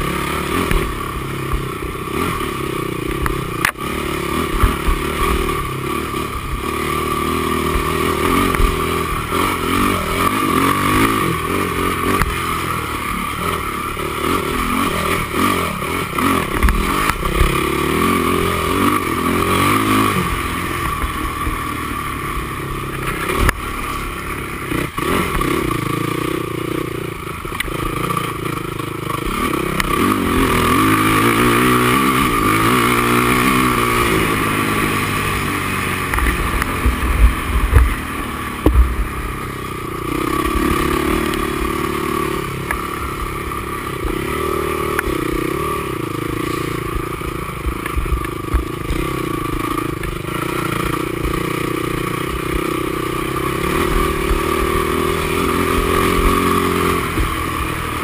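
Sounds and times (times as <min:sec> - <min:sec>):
quad engine running hard: 0:00.0 - 0:58.0.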